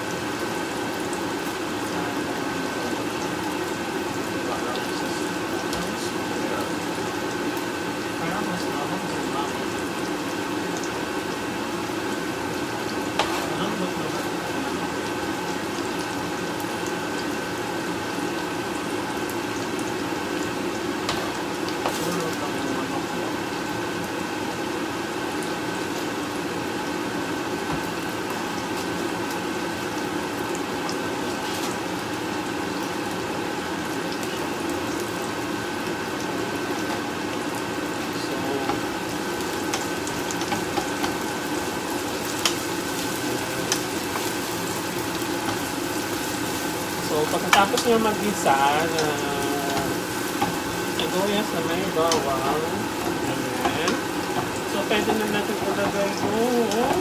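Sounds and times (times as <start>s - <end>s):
onions sizzling in a frying pan: 0.0s - 57.0s.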